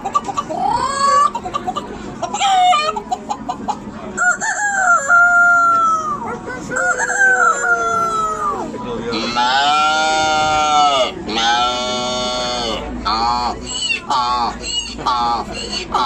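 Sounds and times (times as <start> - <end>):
man imitating chicken clucking: 0.0 - 16.0.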